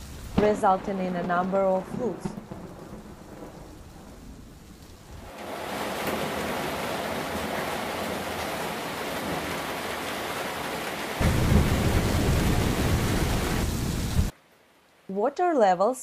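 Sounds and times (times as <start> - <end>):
heavy rain hissing: 0.0 - 14.3.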